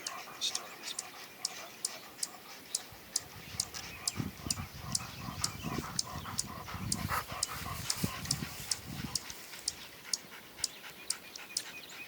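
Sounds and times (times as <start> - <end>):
dog panting hard: 0.0 - 12.0.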